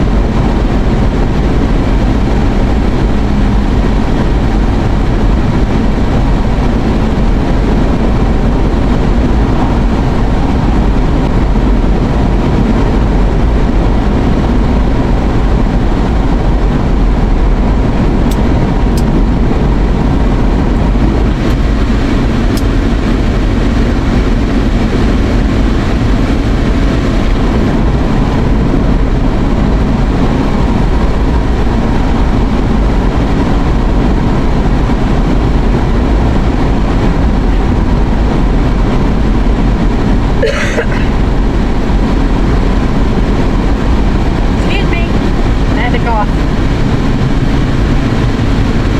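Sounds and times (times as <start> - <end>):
car road and engine noise: 0.0 - 48.9.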